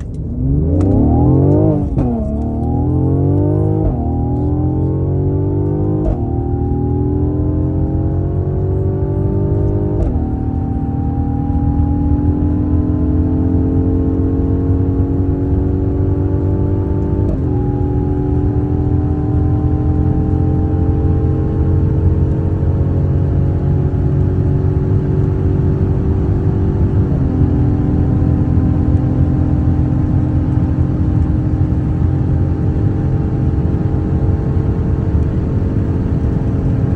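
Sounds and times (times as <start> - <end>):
car engine pulling hard: 0.0 - 36.9
wind and road noise: 0.0 - 36.9.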